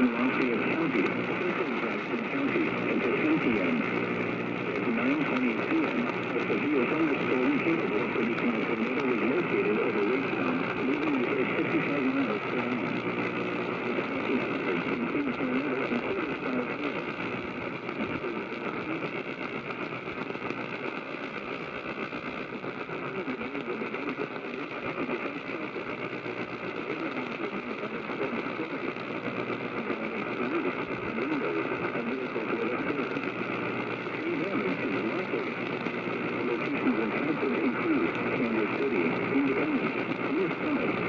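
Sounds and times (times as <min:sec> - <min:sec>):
muffled voice on radio: 0:00.0 - 0:41.0
radio interference hiss and buzz: 0:00.0 - 0:41.0.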